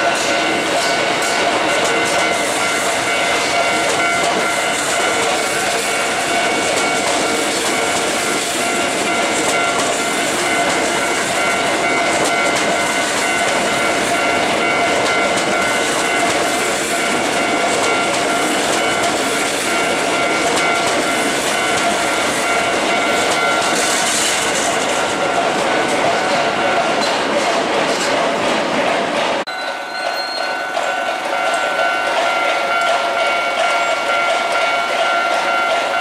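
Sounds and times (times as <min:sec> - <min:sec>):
level crossing warning bell: 0:00.0 - 0:27.2, 0:29.5 - 0:36.0
train wheels clattering over rail joints: 0:00.0 - 0:36.0.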